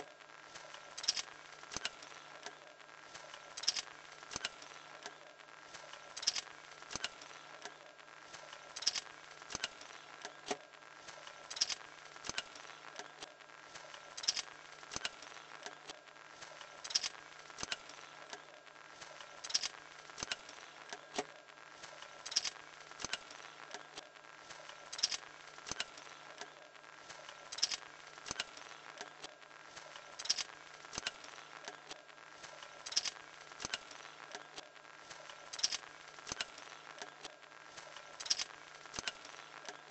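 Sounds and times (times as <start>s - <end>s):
loud cluster of clicks: 0.9s - 2.6s, 3.6s - 5.2s, 5.8s - 10.6s, 11.4s - 18.4s, 19.0s - 39.9s.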